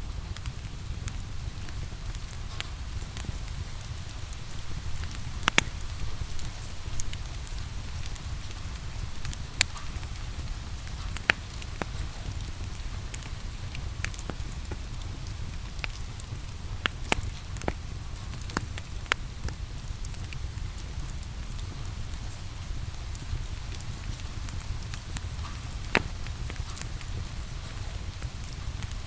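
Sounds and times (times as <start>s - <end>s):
crackling wood fire pops: 0.0s - 29.0s
steady rain: 0.0s - 29.0s.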